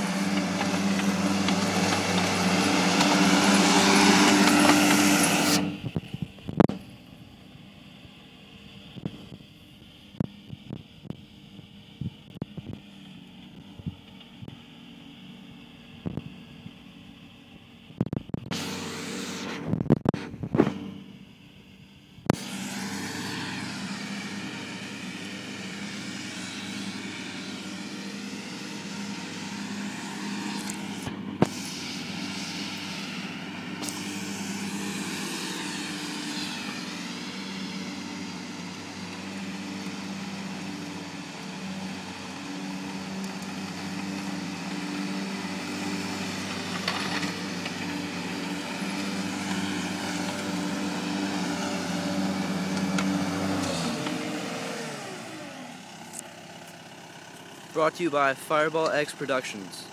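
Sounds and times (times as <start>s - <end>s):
ride-on mower engine running: 0.0s - 59.9s.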